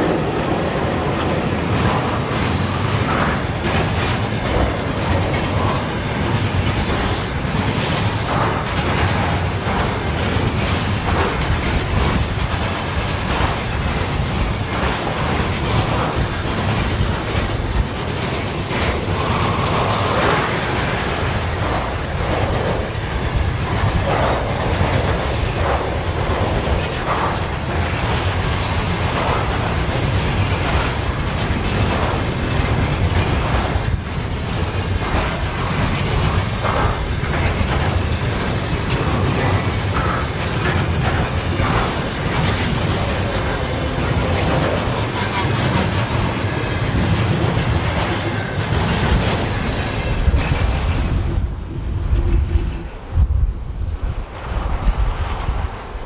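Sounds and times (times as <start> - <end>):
wagons clattering over rail joints: 0.0 - 53.2
freight train rolling past: 0.0 - 56.0.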